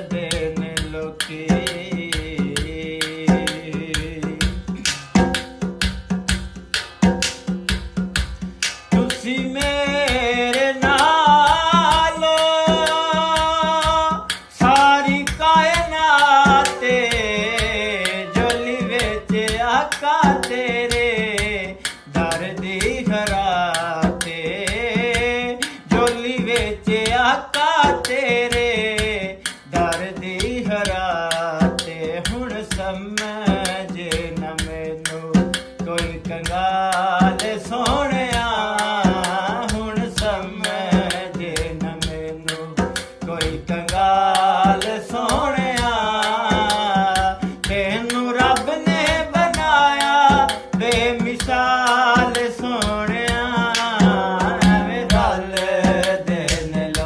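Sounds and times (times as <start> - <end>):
man singing folk song: 0.0 - 4.8, 8.9 - 57.0
hand drum strokes: 0.0 - 57.0.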